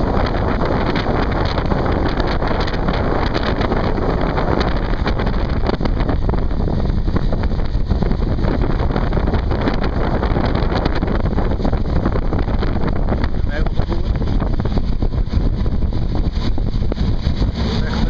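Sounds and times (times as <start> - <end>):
boat engine: 0.0 - 18.0
wind rush on microphone: 0.0 - 18.0.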